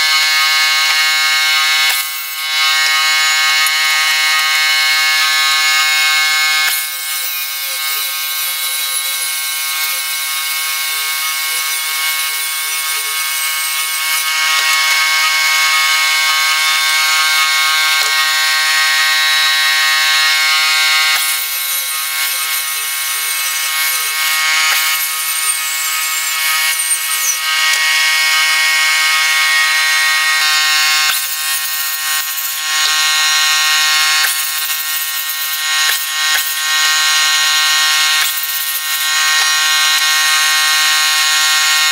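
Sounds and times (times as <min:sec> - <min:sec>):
workshop machine hissing and whining: 0:00.0 - 0:41.9.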